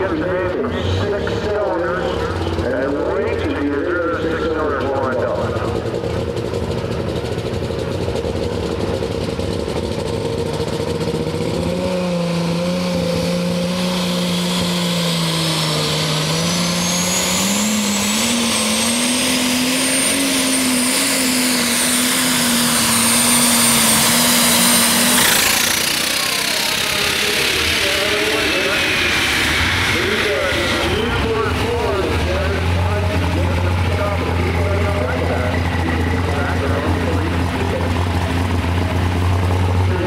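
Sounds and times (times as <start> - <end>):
diesel tractor engine revving: 0.0 - 40.0.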